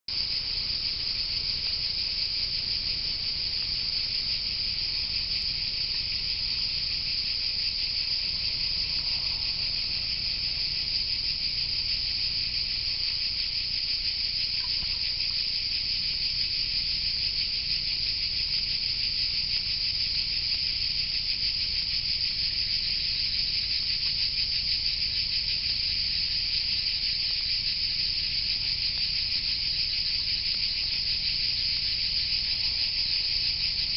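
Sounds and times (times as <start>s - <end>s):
insect chorus buzzing trill: 0.1s - 33.9s.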